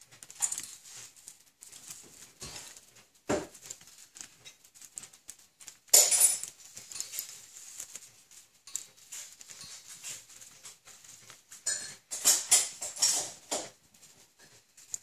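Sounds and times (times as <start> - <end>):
bird toys knocking and rattling: 0.0 - 1.1, 1.7 - 7.6, 8.6 - 13.8.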